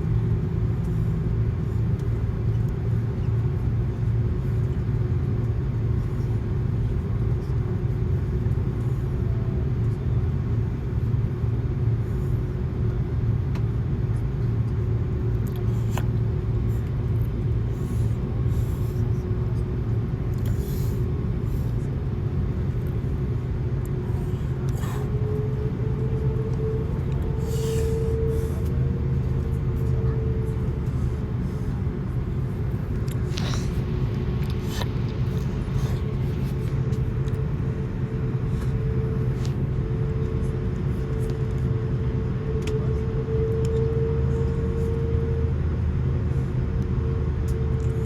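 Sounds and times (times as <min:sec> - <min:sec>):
airplane cabin rumble and hum: 0:00.0 - 0:48.0.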